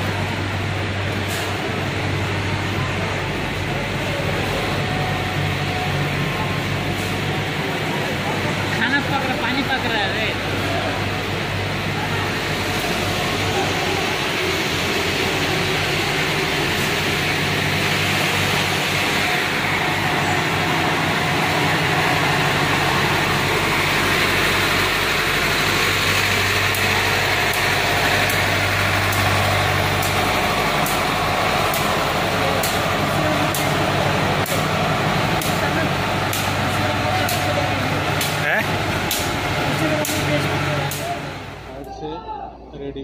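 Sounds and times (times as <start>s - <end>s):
heavy diesel engines running: 0.0s - 43.0s.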